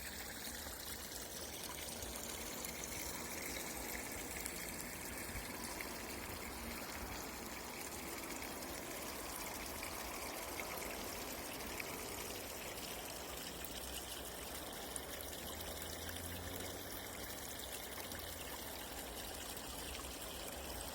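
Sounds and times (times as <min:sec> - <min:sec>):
water trickling: 0:00.0 - 0:20.9.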